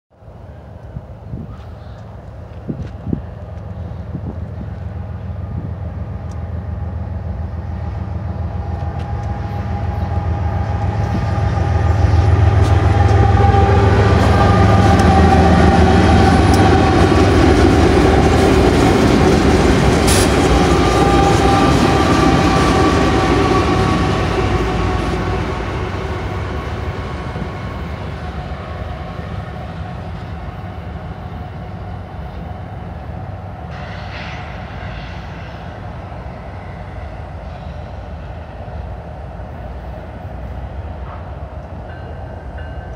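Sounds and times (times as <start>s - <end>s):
wheels on rail: 0.1s - 42.9s
locomotive engines rumbling: 0.2s - 42.9s.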